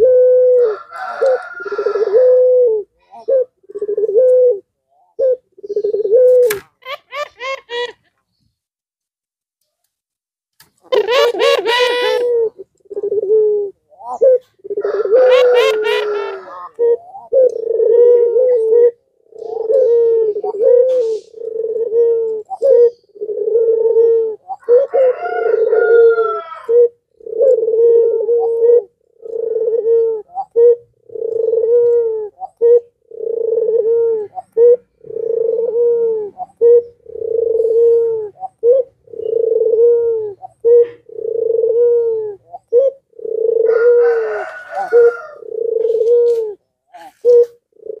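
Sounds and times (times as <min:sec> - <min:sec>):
dove cooing: 0:00.0 - 0:08.1, 0:10.8 - 0:48.0.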